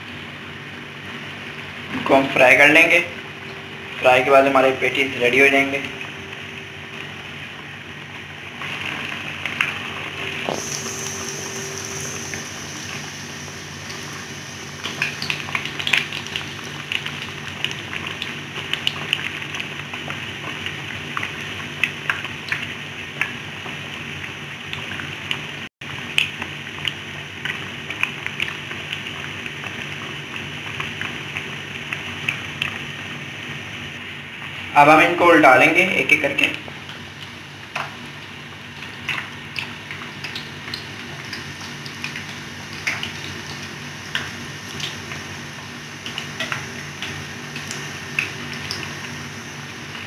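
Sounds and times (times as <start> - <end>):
oil sizzling in a frying pan: 0.0 - 4.1, 5.8 - 50.0
oil crackling and popping: 7.0 - 33.8, 36.7 - 50.0.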